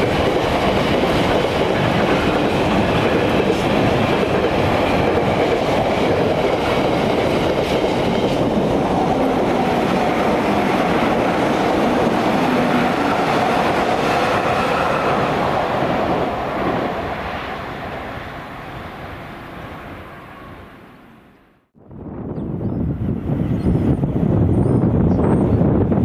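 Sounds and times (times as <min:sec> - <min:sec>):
train wheels on rails: 0:00.0 - 0:20.9.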